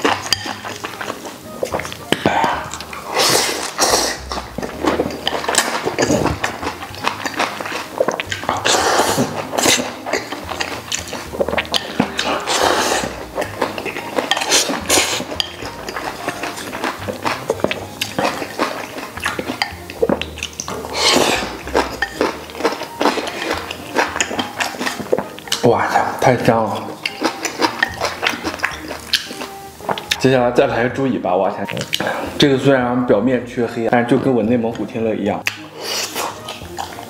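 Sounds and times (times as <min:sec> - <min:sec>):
chewing: 0:00.0 - 0:30.3, 0:31.6 - 0:32.5, 0:35.4 - 0:37.0
noodles slurping: 0:00.0 - 0:30.3, 0:35.5 - 0:37.0.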